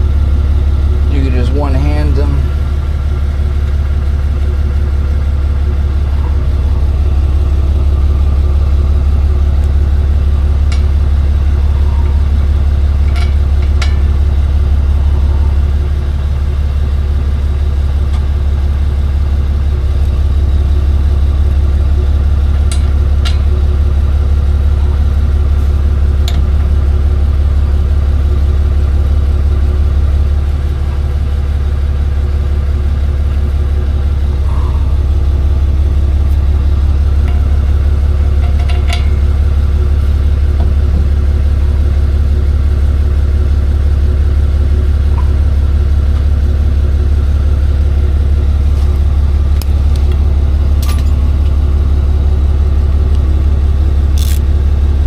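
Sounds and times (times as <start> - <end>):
tow truck engine running: 0.0 - 55.0.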